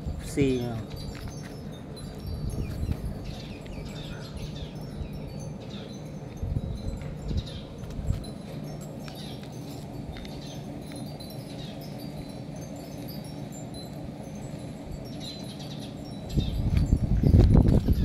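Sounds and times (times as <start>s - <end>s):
steady low hum: 0.0s - 18.0s
wind chimes tinkling: 0.0s - 18.0s.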